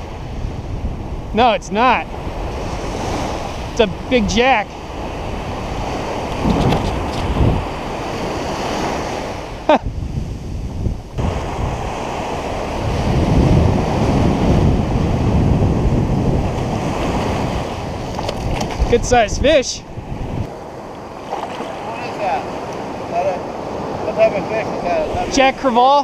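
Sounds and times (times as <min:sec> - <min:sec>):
ocean surf washing over sand: 0:00.0 - 0:26.0
wind buffeting microphone: 0:00.0 - 0:26.0.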